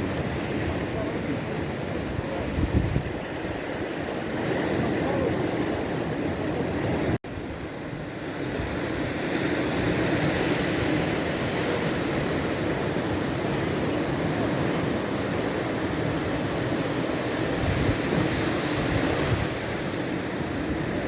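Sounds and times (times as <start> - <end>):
surf washing onto shore: 0.0 - 21.0
wind on microphone: 0.0 - 21.0.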